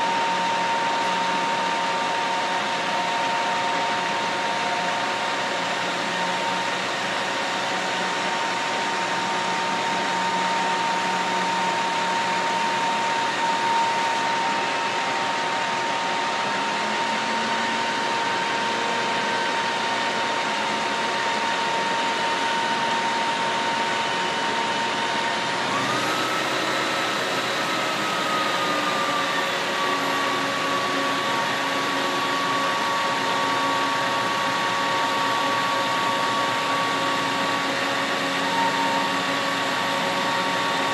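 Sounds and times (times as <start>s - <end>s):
steady whine: 0.0s - 40.9s.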